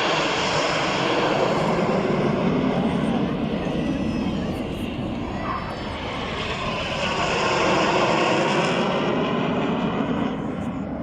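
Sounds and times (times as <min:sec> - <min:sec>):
aircraft flying past: 0:00.0 - 0:11.0.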